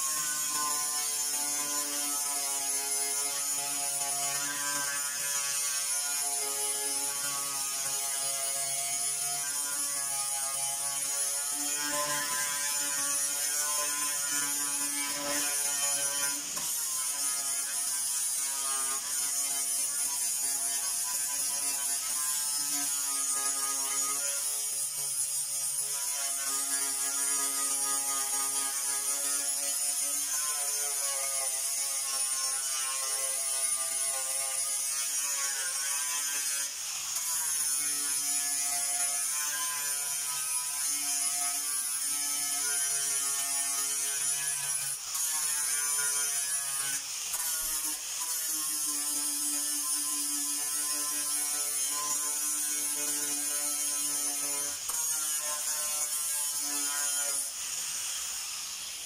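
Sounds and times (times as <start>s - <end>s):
power sander grinding metal: 0.0s - 59.0s.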